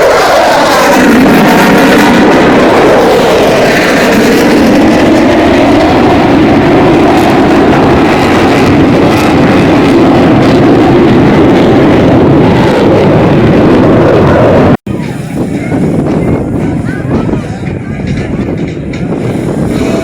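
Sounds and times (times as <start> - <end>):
jet engine rushing: 0.0 - 20.0.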